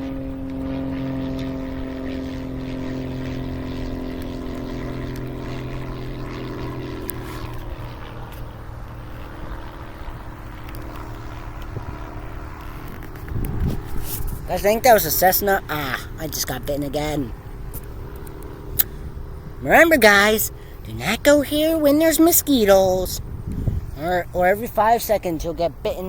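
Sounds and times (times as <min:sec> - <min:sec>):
propeller plane humming: 0:00.0 - 0:26.0.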